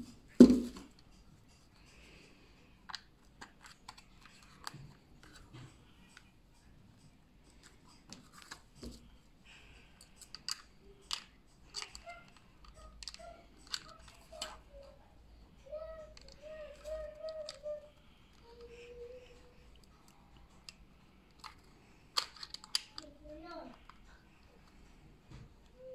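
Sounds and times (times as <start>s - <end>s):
clicks and rustles of handling: 2.8s - 15.0s, 15.6s - 25.9s.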